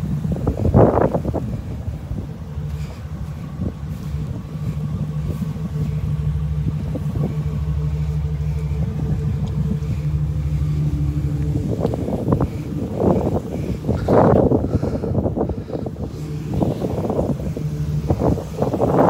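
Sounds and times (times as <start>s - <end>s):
pickup engine idling: 0.0s - 19.0s
wind buffeting microphone: 0.0s - 19.0s.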